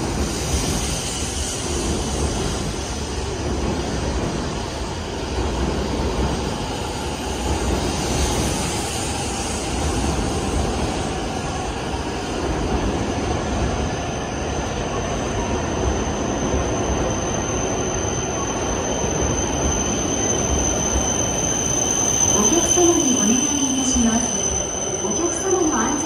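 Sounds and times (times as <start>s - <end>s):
train rolling rumble and hiss: 0.0s - 26.0s.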